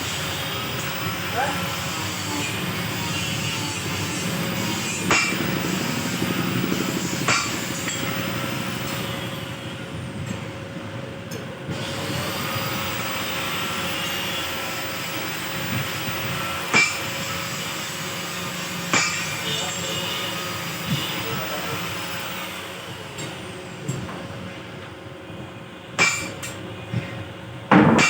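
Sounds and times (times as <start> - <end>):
workshop noise: 0.0 - 28.0.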